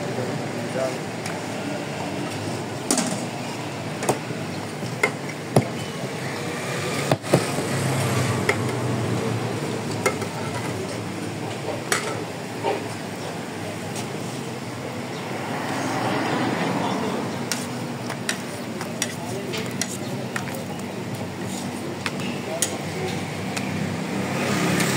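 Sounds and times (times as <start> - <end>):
people talking: 0.0 - 24.9
traffic: 0.0 - 24.9.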